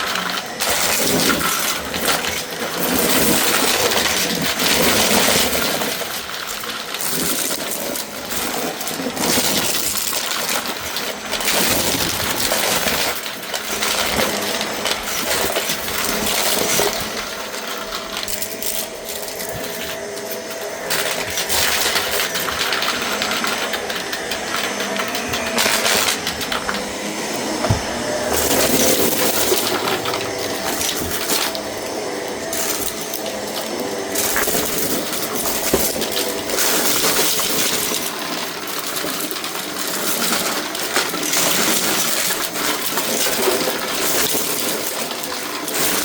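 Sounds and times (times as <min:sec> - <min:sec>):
vacuum cleaner motor whine: 0:00.0 - 0:46.0.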